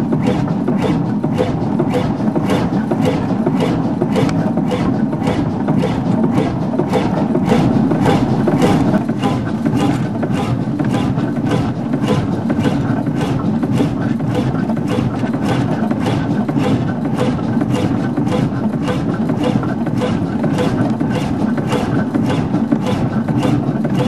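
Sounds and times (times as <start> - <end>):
marine engine running steadily: 0.0 - 24.0.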